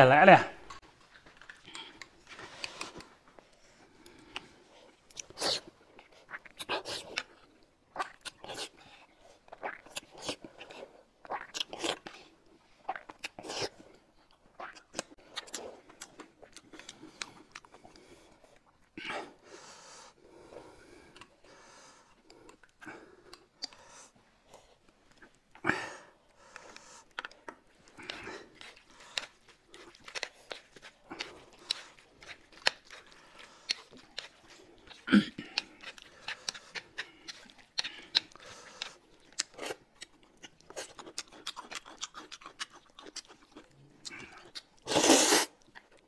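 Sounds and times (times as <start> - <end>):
chewing and slurping: 0.7 - 46.0.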